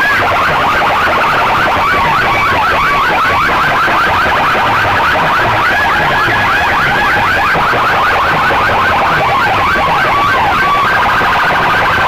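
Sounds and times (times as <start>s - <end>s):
electronic alarm siren: 0.0s - 12.0s.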